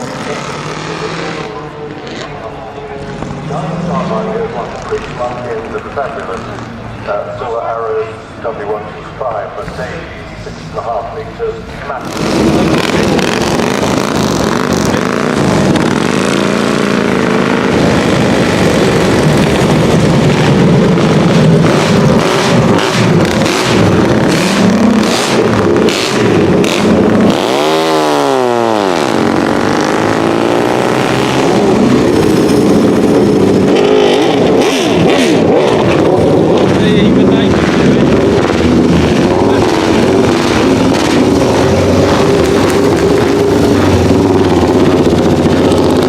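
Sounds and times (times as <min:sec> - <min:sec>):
racing car engine at high revs: 0:00.0 - 0:46.0.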